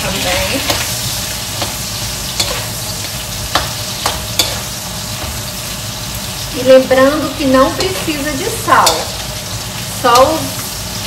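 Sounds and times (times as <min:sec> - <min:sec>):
spatula scraping a wok: 0:00.0 - 0:06.5, 0:07.4 - 0:11.0
meat sizzling in hot oil: 0:00.0 - 0:11.0.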